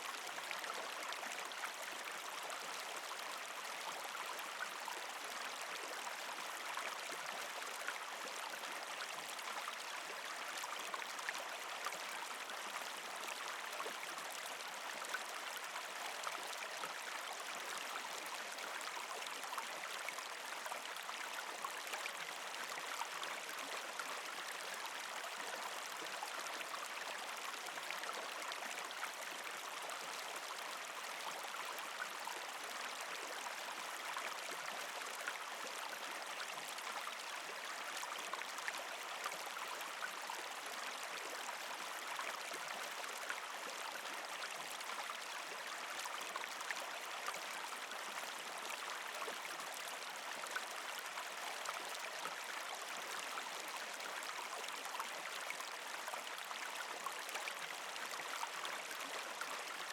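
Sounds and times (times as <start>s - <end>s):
creek water trickling over rocks: 0.0s - 59.9s.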